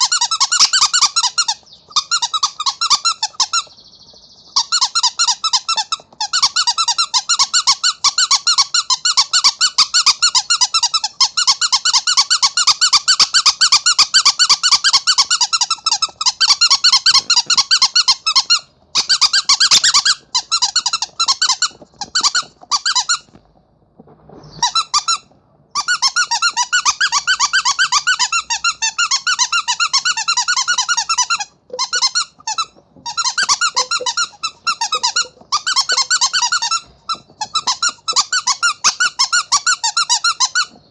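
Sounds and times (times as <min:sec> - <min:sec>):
squeaky toy squeaking: 0:00.0 - 0:03.7, 0:04.6 - 0:23.4, 0:24.5 - 0:40.9.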